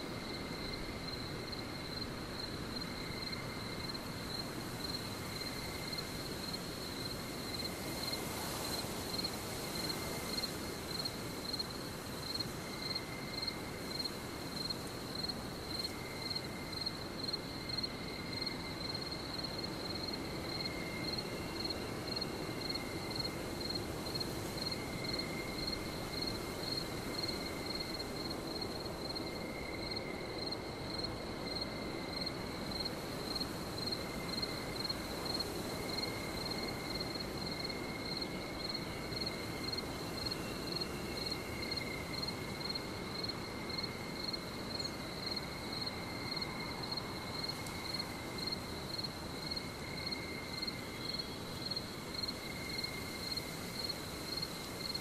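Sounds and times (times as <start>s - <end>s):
constant hiss: 0.0s - 55.0s
cricket chirping: 0.0s - 55.0s
low insect drone: 0.0s - 55.0s.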